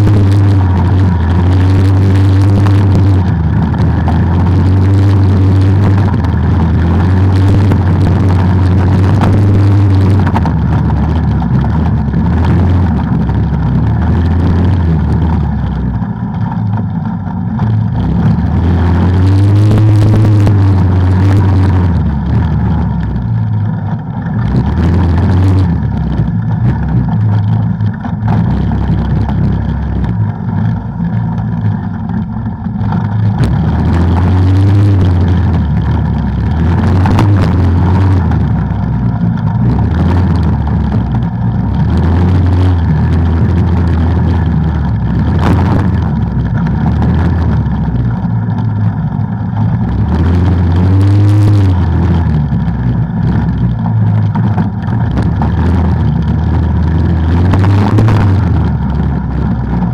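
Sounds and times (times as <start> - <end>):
off-road vehicle engine revving: 0.0 - 59.9.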